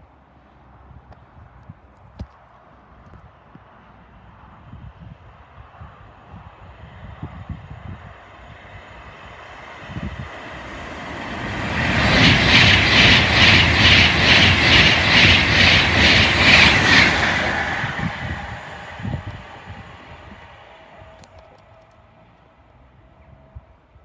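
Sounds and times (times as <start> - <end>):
passenger train passing: 3.7 - 24.0.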